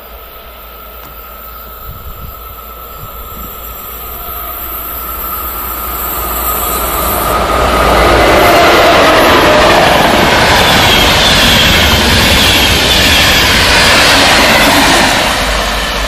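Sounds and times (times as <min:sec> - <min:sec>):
passenger train approaching: 0:00.0 - 0:16.0
thin high whine: 0:00.0 - 0:16.0.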